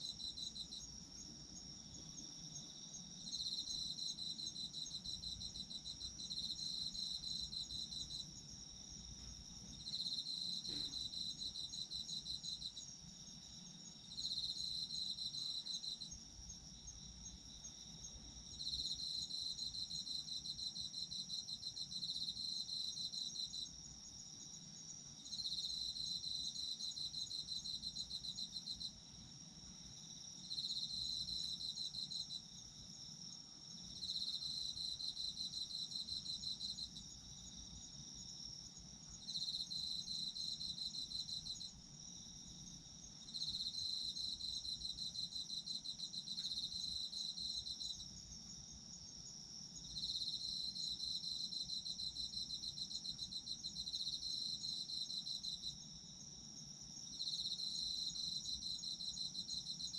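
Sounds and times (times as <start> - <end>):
cricket continuous high trill: 0.0 - 59.9.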